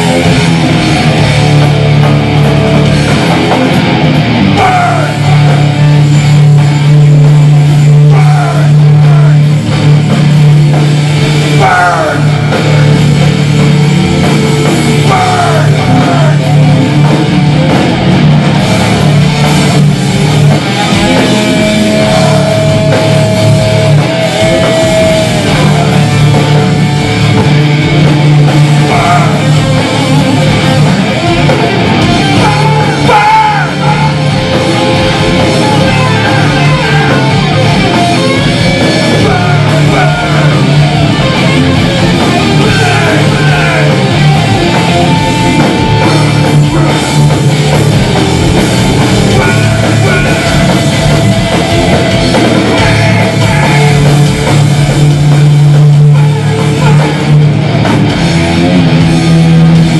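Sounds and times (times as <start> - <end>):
distorted electric guitars: 0.0 - 59.9
drum kit pounding: 0.0 - 59.9
heavy metal band playing live: 0.0 - 59.9.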